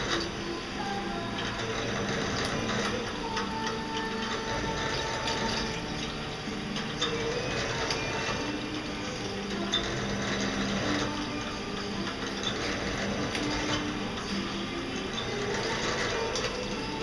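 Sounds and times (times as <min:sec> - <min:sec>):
machining center cutting: 0:00.0 - 0:17.0.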